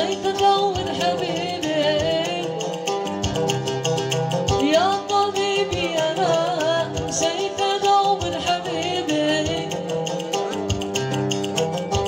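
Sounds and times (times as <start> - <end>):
percussive beat: 0.0 - 12.0
plucked string instrument: 0.0 - 12.0.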